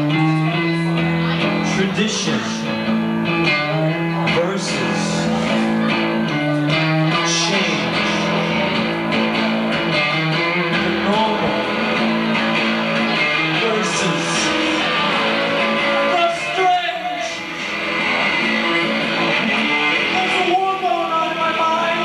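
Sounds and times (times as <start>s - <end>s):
electric guitar bending notes: 0.0s - 22.0s.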